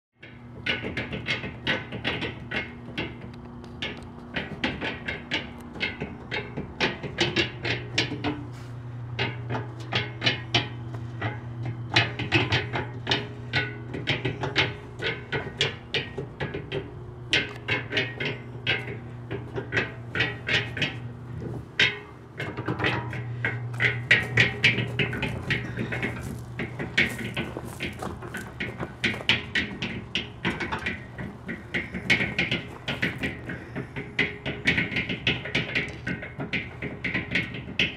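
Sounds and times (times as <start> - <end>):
concrete mixer drum clanking: 0.2 - 37.9
motor hum: 0.2 - 37.9.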